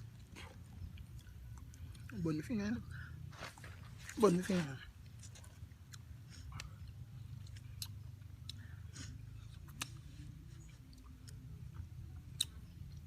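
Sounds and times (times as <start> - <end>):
chewing and crunching food: 0.0 - 13.0
steady low hum: 0.0 - 13.0.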